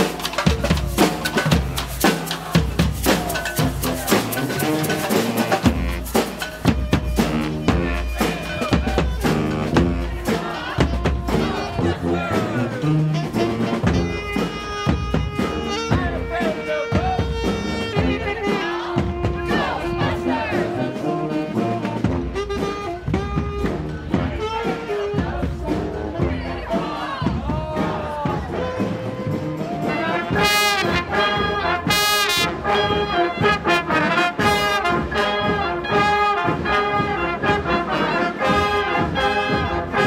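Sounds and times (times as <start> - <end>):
brass band playing: 0.0 - 40.0
drumbeat: 0.0 - 40.0.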